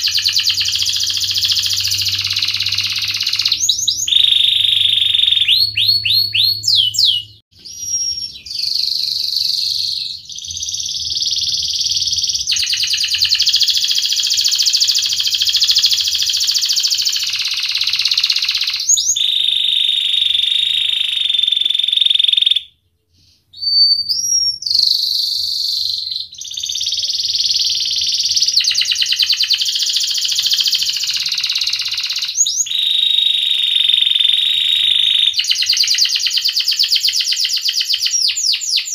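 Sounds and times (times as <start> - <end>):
canary singing: 0.0 - 22.7, 23.6 - 38.9.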